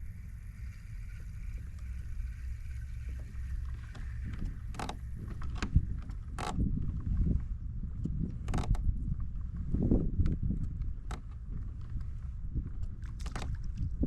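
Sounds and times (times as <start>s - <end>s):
low wind rumble: 0.0s - 14.0s
water and gear sounds: 0.0s - 14.0s.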